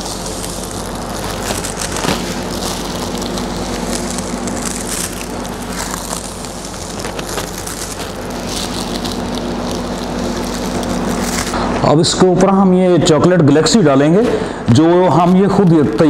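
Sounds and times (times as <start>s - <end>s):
paper wrapping crinkling: 0.0s - 12.0s, 15.0s - 16.0s
background hum: 0.0s - 16.0s.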